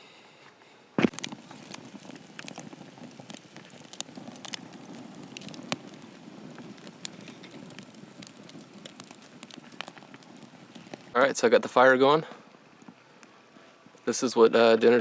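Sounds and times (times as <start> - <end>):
campfire hissing: 1.0 - 15.0
fire popping and crackling: 1.0 - 15.0.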